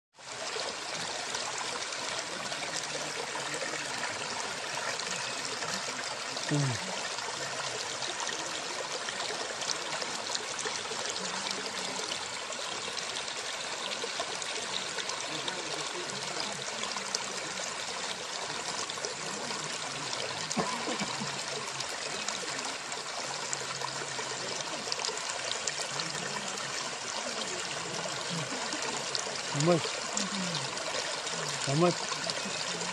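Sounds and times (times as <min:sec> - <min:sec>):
water trickling and splashing: 0:00.2 - 0:32.9.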